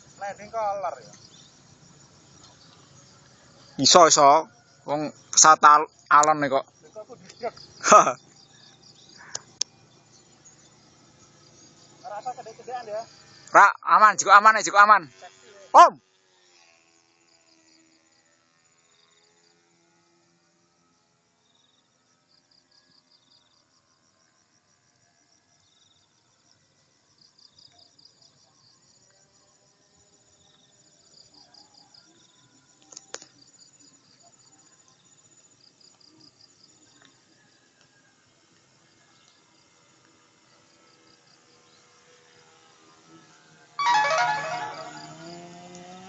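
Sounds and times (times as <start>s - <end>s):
insects chirping in high trills: 0.0s - 46.0s.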